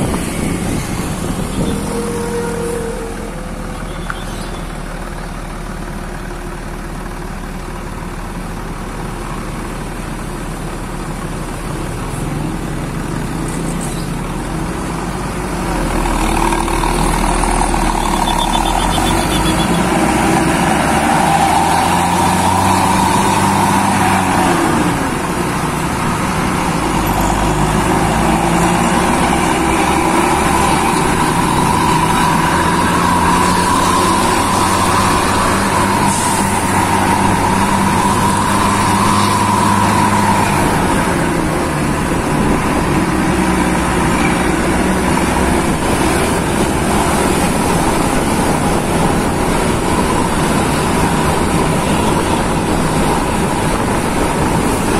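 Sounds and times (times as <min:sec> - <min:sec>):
diesel coach engine accelerating: 0:00.0 - 0:54.9.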